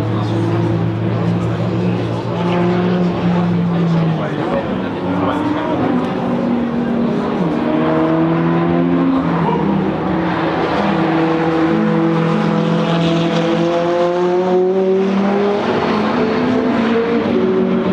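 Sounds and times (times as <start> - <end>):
car engine running hard: 0.0 - 17.9.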